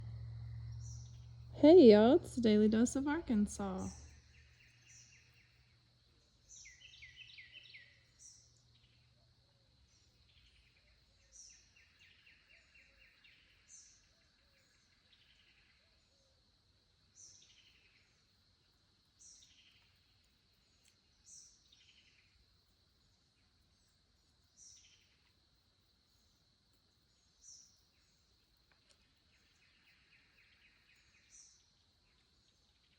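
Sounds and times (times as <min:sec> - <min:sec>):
faint birdsong: 0:00.0 - 0:32.9.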